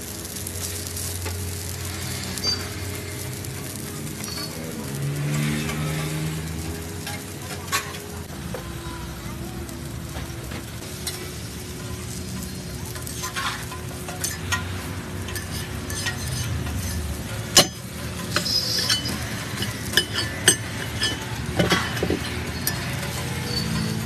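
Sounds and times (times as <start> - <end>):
low sizzle: 0.0 - 24.0
metal spatula on griddle: 0.0 - 24.0.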